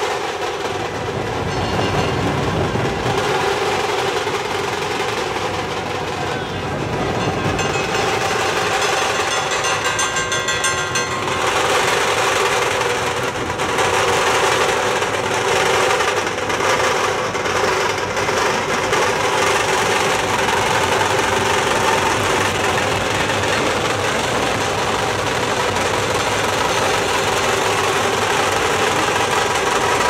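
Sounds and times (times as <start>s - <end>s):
dhol and tasha drumming: 0.0s - 30.0s.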